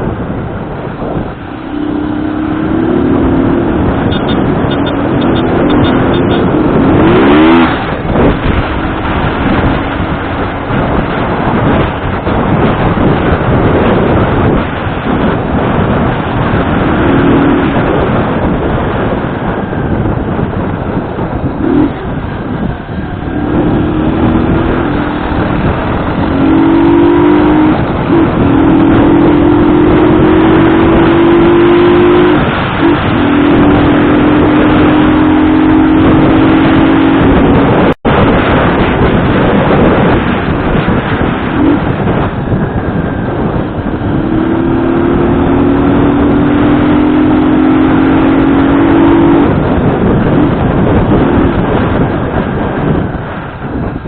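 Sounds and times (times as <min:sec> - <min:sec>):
vehicle engine running: 0:00.0 - 0:54.0
wind noise on microphone: 0:00.0 - 0:54.0.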